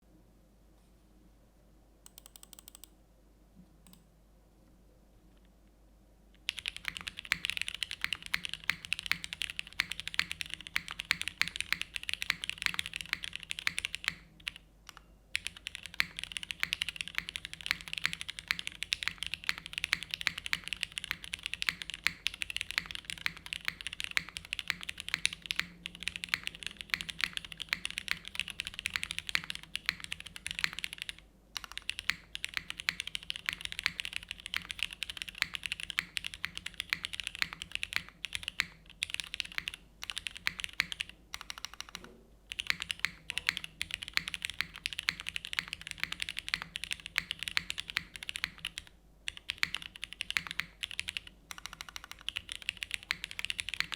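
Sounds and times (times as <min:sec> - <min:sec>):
fast typing on mechanical keyboard: 0:02.1 - 0:02.9, 0:06.4 - 0:14.6, 0:15.4 - 0:53.9.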